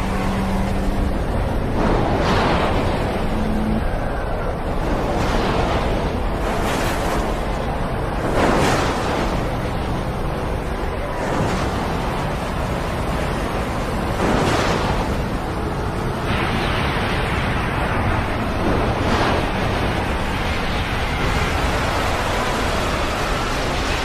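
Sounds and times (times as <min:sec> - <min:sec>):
race truck engines and wind: 0:00.0 - 0:24.0.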